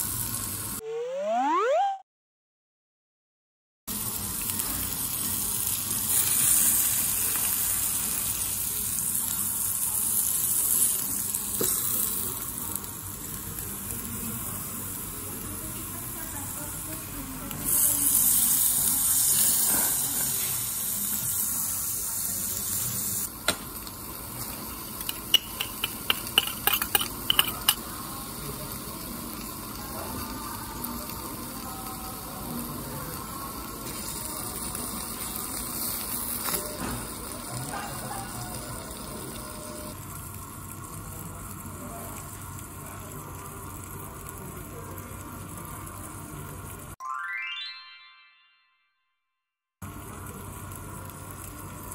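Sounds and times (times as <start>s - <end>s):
steak sizzling on hot plate: 0.0s - 0.8s, 3.9s - 46.8s, 49.8s - 51.9s.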